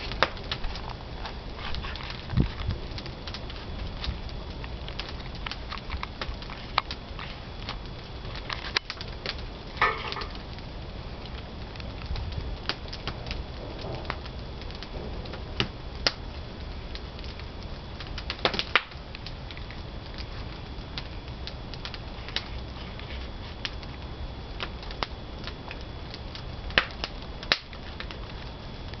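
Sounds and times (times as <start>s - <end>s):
fire popping and crackling: 0.0s - 29.0s
wood fire rumbling in a kiln: 0.0s - 29.0s.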